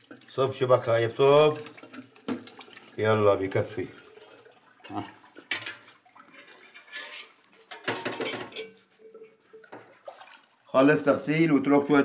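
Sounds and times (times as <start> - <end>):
metal pots clattering: 0.0 - 10.4
water splashing: 0.0 - 11.4.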